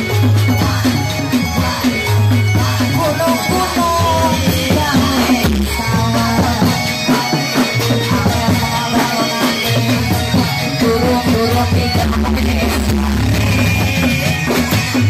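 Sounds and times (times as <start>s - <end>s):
melody line: 0.0s - 15.0s
steady drum beat: 0.0s - 15.0s.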